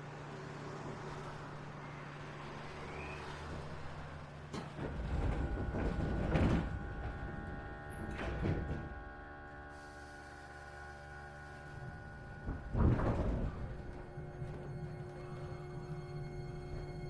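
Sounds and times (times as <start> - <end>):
train equipment hum: 0.0 - 17.0
train sliding doors: 0.4 - 9.0, 9.7 - 17.0.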